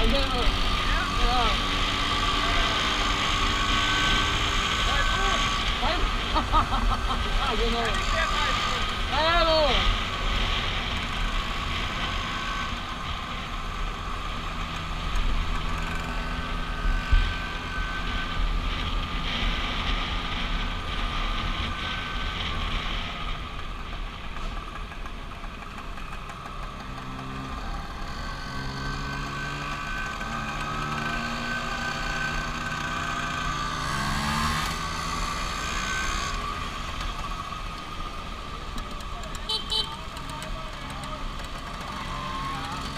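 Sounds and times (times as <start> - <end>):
scooter engines running: 0.0 - 42.9.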